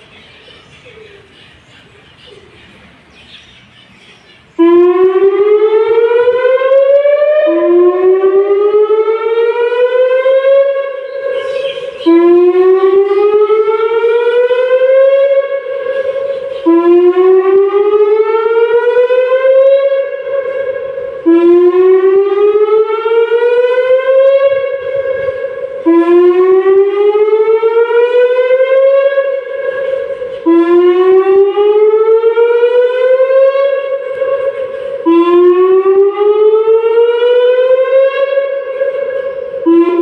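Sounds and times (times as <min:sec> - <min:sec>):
siren rising wail: 0:04.5 - 0:40.0.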